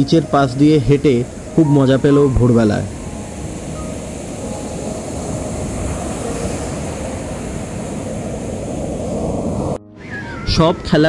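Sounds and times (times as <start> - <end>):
ocean surf breaking on beach: 0.0 - 10.9.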